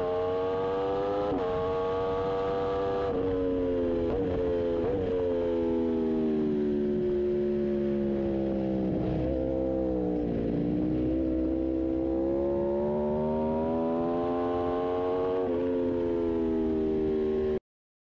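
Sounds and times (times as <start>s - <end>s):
motorcycle engine accelerating: 0.0s - 17.6s.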